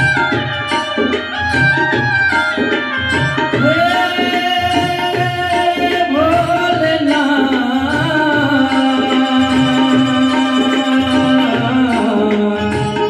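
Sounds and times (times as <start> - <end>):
keyboard melody of sliding notes: 0.0 - 13.0
looped keyboard drum rhythm: 0.0 - 13.0.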